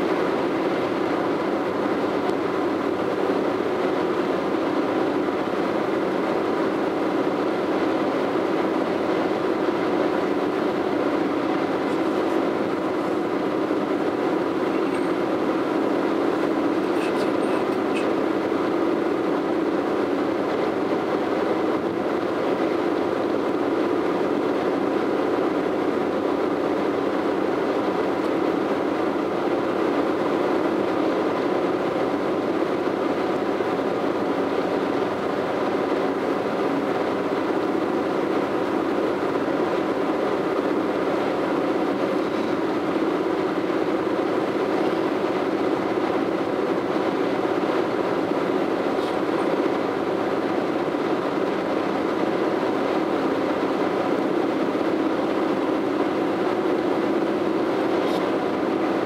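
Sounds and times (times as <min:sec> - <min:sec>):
car driving on highway: 0:00.0 - 0:59.0.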